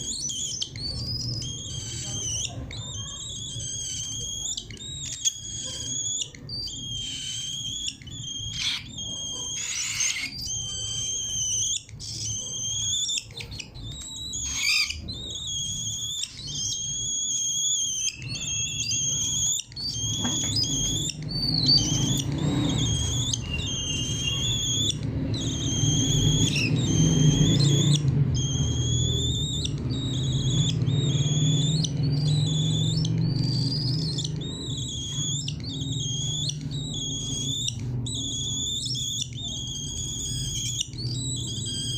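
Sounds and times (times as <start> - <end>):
cockatiels whistling calls: 0.0 - 41.9.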